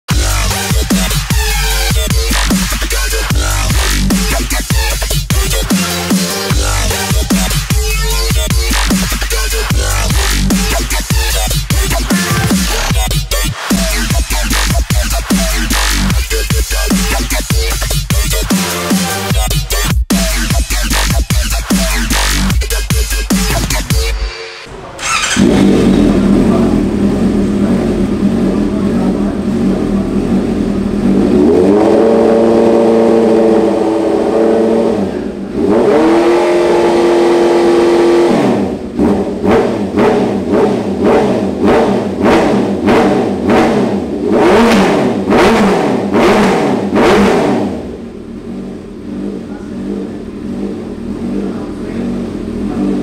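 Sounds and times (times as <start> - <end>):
motorcycle engine revving: 0.1 - 53.0.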